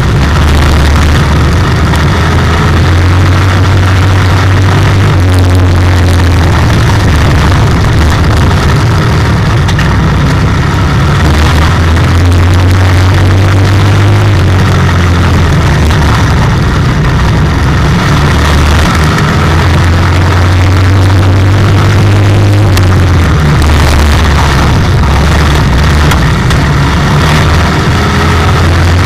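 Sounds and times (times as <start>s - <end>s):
race car engine: 0.0s - 29.0s.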